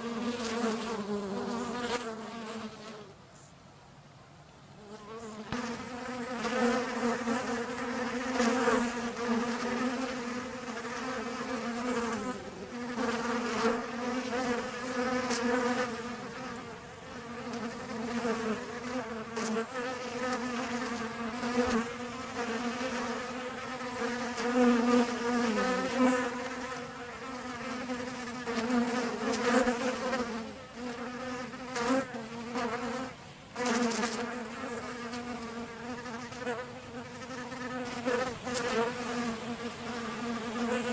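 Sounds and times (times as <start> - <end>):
honeybees buzzing: 4.8 - 40.9.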